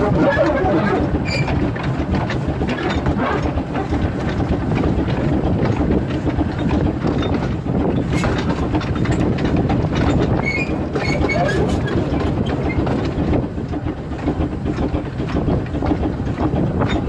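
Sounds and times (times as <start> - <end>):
steam locomotive running: 0.0 - 17.0
wheels clattering on rails: 0.0 - 17.0.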